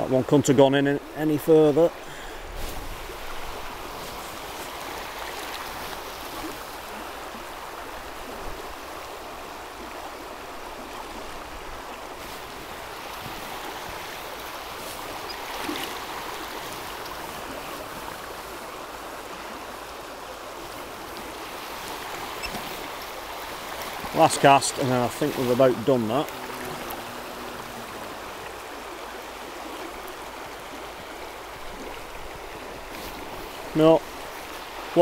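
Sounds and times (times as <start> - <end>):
river rushing over stones: 0.0 - 35.0.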